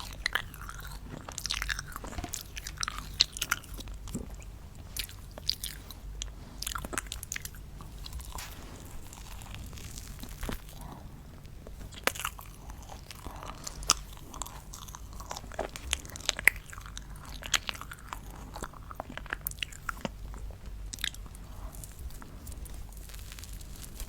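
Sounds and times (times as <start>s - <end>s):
crunching and chewing: 0.0s - 24.0s.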